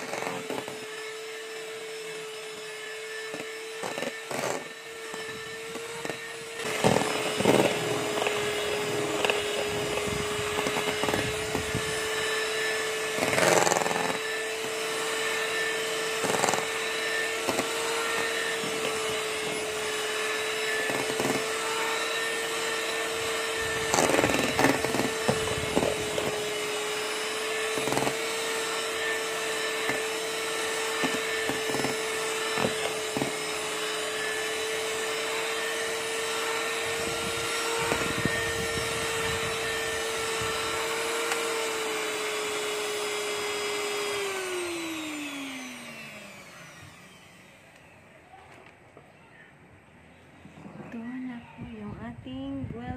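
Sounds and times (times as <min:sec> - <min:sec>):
electric hand mixer whine: 0:00.0 - 0:48.7.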